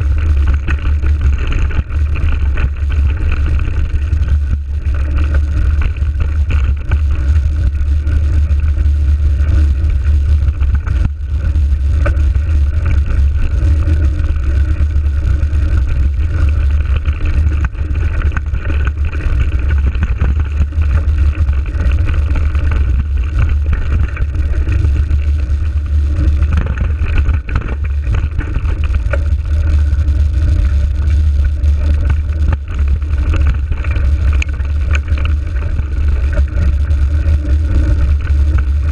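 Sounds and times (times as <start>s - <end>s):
bike trail vibration: 0.0s - 38.9s.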